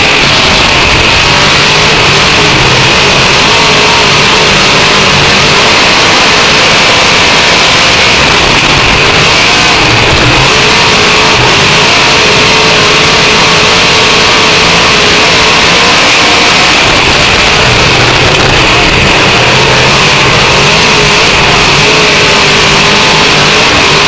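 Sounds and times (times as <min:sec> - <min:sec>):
race car engine running hard: 0:00.0 - 0:24.0.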